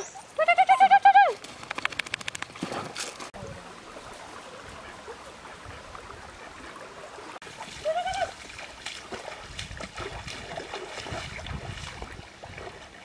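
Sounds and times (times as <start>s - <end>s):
river water flowing: 1.3s - 13.0s.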